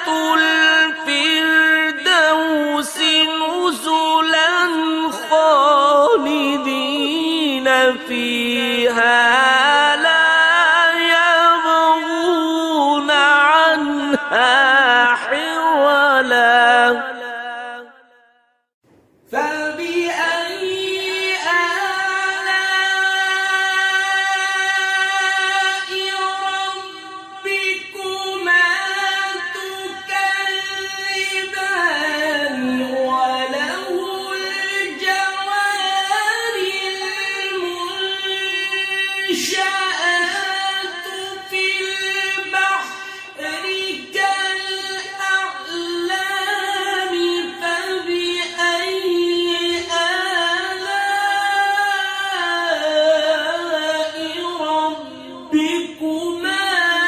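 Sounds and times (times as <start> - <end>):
high voice chanting: 0.0 - 18.0, 19.3 - 57.0.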